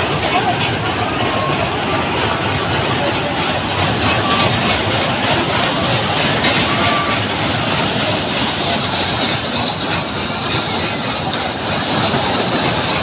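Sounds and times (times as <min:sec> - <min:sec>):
fairground ride cars rumbling on track: 0:00.0 - 0:13.0.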